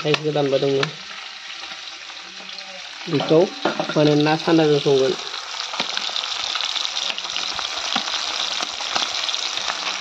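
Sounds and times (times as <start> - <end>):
food sizzling in hot oil: 0.0 - 10.0
oil popping and crackling: 0.0 - 10.0.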